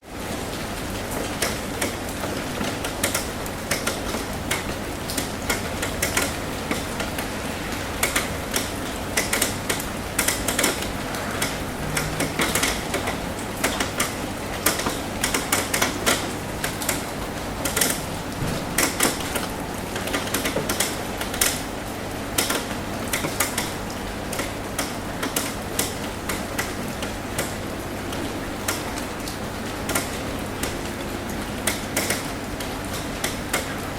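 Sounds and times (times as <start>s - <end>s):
rain on a metal roof: 0.0s - 33.9s
raindrops tapping sheet metal: 0.2s - 33.9s.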